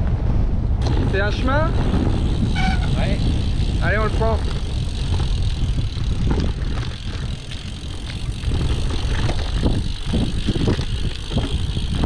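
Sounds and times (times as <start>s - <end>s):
wind on microphone: 0.0s - 12.0s
bicycle tyres rumbling on gravel: 0.8s - 12.0s.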